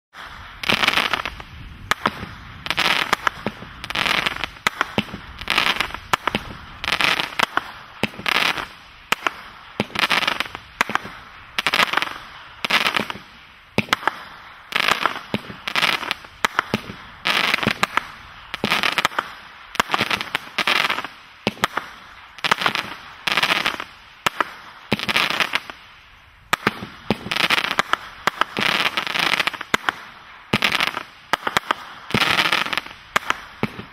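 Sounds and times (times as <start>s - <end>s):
firework shots firing: 0.1s - 25.9s, 26.5s - 33.9s
crackling firework bursts: 0.1s - 33.9s.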